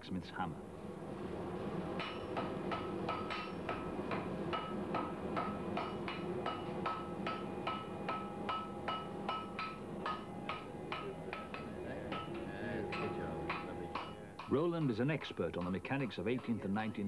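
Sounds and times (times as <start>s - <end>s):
hammer striking iron on anvil: 2.0s - 17.0s.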